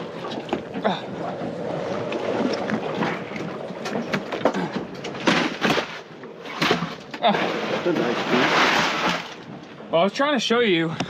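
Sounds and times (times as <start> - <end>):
water: 0.0 - 11.0
wind: 0.0 - 11.0.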